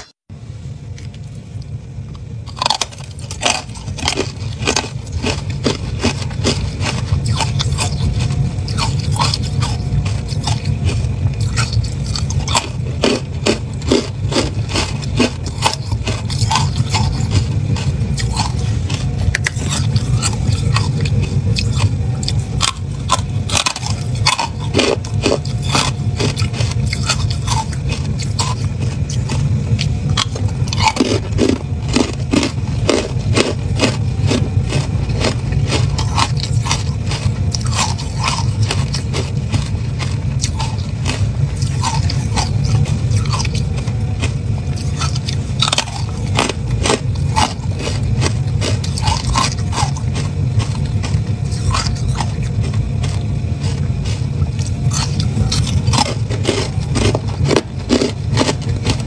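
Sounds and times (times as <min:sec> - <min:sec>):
steady low rumble: 0:00.0 - 0:59.0
crunching and chewing ice: 0:00.9 - 0:59.0.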